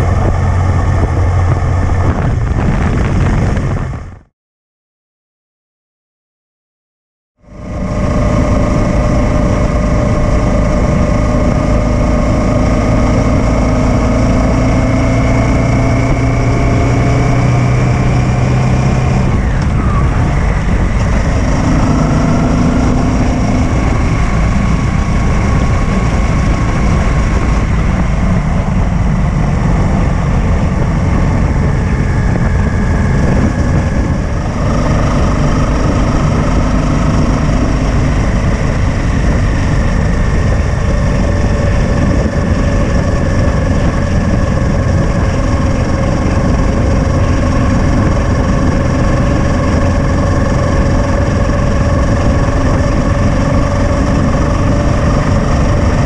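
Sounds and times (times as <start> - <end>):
motorcycle engine running: 0.0 - 4.3, 7.4 - 56.0
wind rush: 0.0 - 4.3, 7.4 - 56.0.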